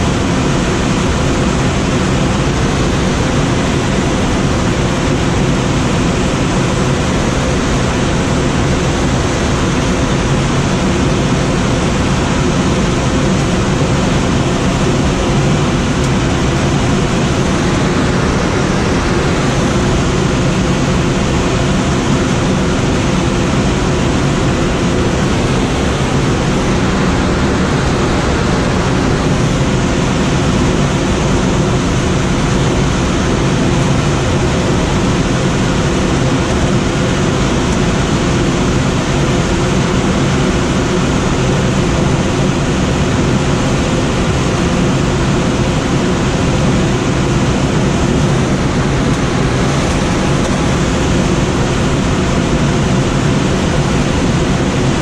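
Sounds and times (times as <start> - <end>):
wind rushing over glider: 0.0 - 55.0.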